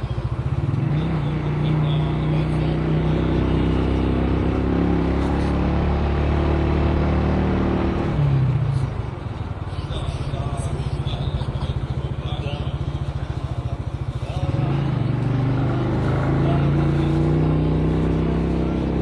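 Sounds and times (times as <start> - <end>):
car engine humming under load: 0.0 - 19.0.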